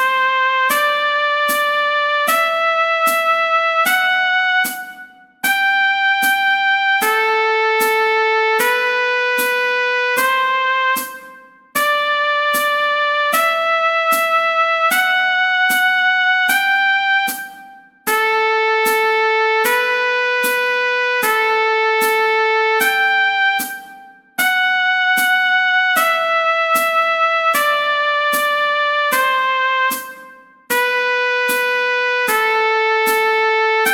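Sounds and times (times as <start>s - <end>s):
trumpet playing scale: 0.0s - 33.9s.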